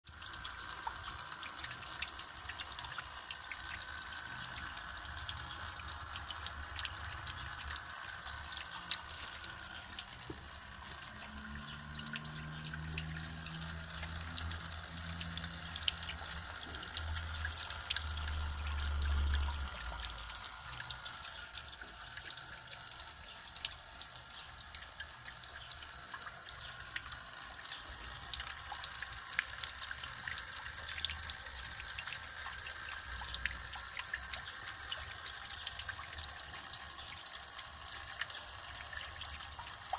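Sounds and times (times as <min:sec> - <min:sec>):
fountain water trickling: 0:00.0 - 0:39.9.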